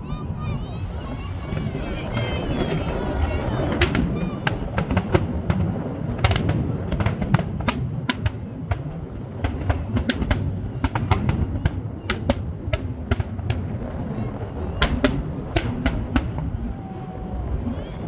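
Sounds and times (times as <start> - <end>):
fireworks bangs and crackles: 1.0 - 18.0.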